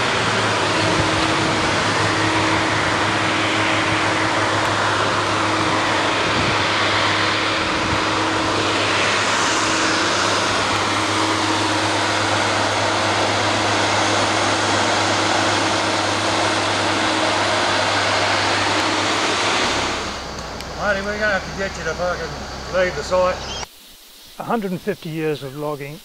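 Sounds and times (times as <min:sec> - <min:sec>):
engine drone with hiss: 0:00.0 - 0:26.0.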